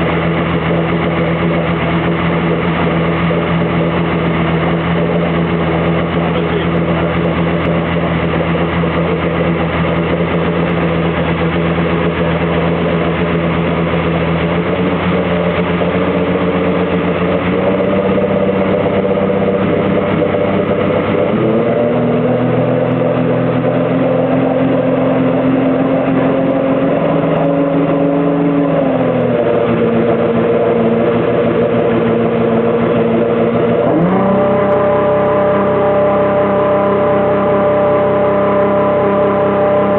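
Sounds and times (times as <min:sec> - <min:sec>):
outboard engine running: 0:00.0 - 0:39.9.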